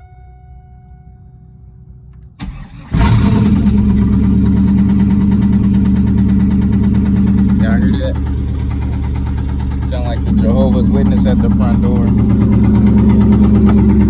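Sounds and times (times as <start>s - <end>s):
car engine cranking: 2.1s - 14.0s
car engine idling loudly: 2.4s - 14.0s.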